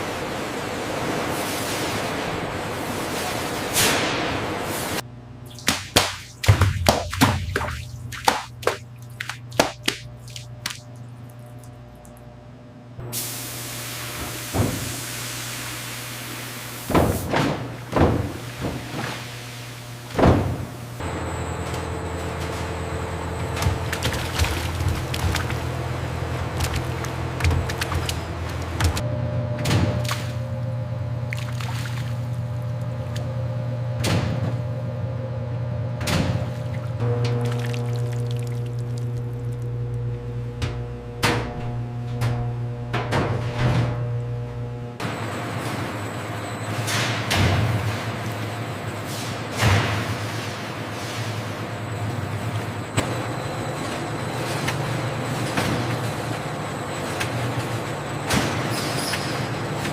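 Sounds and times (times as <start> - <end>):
factory machinery hum: 0.0 - 59.9.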